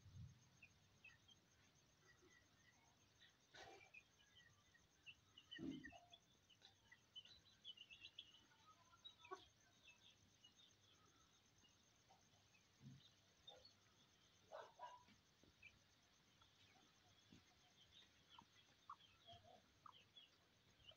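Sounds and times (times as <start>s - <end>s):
faint bird chirps: 0.0s - 20.9s.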